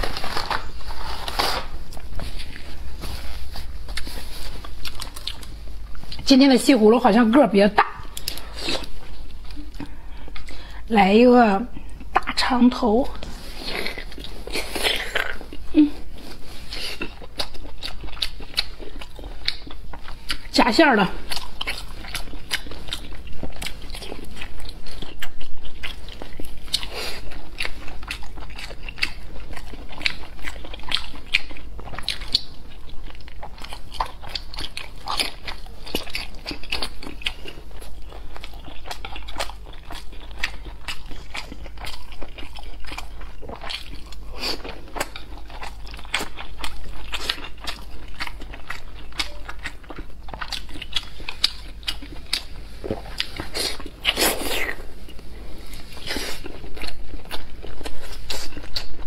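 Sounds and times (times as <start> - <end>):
person chewing food: 0.0 - 6.3, 8.0 - 10.9, 13.1 - 20.5, 21.2 - 59.0.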